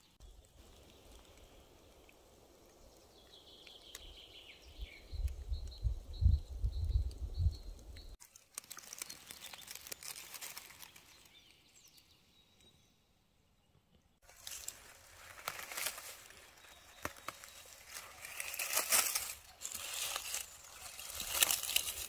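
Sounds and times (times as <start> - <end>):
dry grass and twigs rustling: 0.0 - 12.1, 14.2 - 22.0
birdsong: 0.0 - 22.0.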